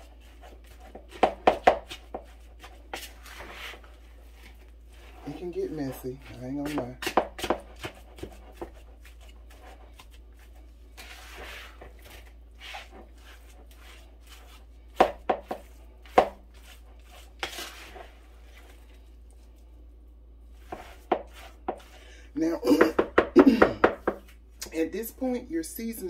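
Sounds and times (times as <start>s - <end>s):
meat mixture squishing: 0.0s - 22.2s.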